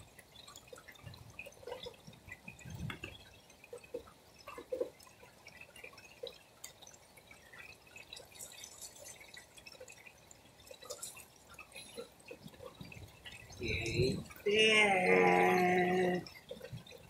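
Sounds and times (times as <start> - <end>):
rain dripping and pattering: 0.0 - 17.0.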